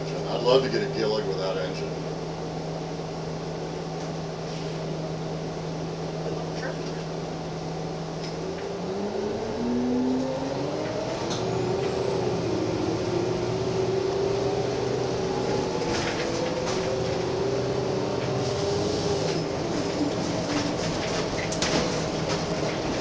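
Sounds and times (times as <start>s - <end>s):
bus engine whine: 0.0s - 23.0s.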